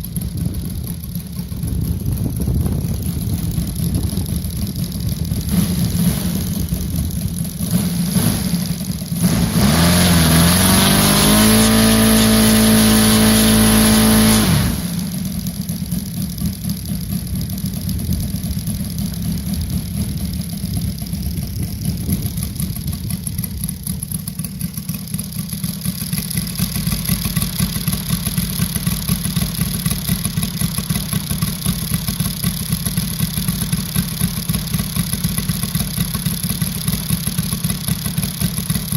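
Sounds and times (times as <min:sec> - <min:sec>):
radial engine idling and revving: 0:00.0 - 0:38.9.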